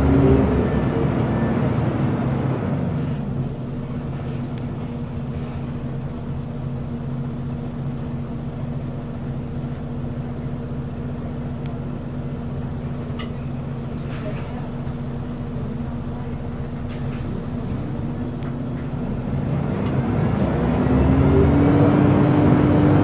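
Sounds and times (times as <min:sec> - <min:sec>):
bus diesel engine humming: 0:00.0 - 0:23.0.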